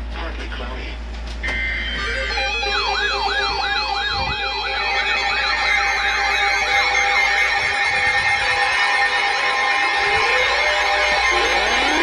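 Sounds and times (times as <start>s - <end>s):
yelping siren: 1.4s - 12.0s.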